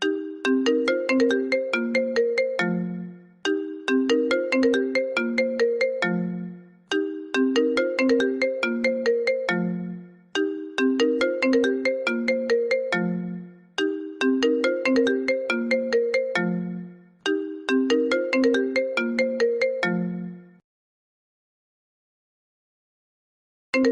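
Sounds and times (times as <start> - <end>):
phone ringtone melody: 0.0 - 20.6.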